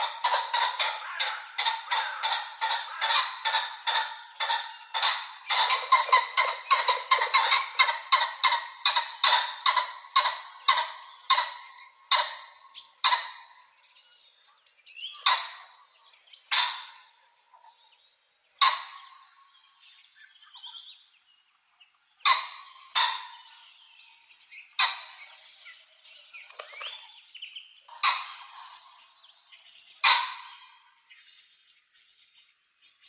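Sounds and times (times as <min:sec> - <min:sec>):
pheasant calling: 0:00.0 - 0:21.0, 0:22.1 - 0:32.6.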